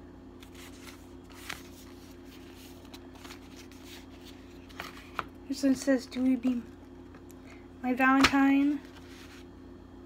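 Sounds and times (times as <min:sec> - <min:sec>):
steady low hum: 0:00.0 - 0:10.0
paper cards rustling: 0:00.4 - 0:07.3, 0:08.0 - 0:09.5.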